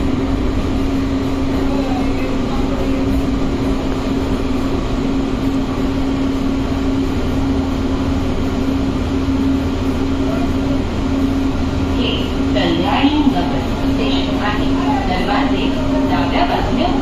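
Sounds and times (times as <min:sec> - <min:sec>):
train car rumbling: 0:00.0 - 0:17.0
train interior low hum: 0:00.0 - 0:17.0.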